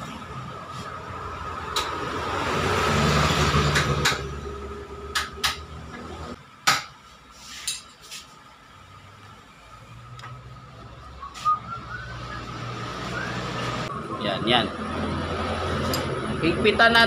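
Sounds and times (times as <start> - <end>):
engine: 0.0 - 6.6, 7.8 - 17.0.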